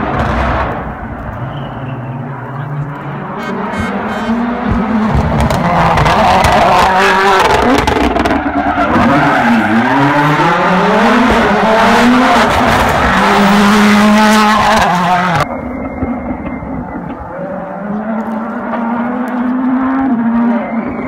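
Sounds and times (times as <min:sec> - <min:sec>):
rally car engine at full throttle: 0:00.0 - 0:21.0.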